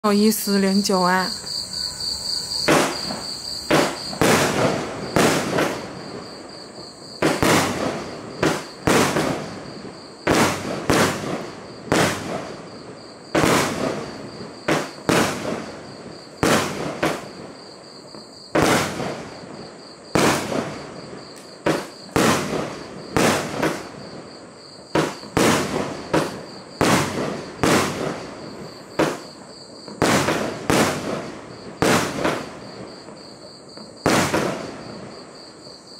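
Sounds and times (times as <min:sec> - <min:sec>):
fireworks bangs: 0:00.0 - 0:35.8
crickets chirping: 0:00.0 - 0:35.9.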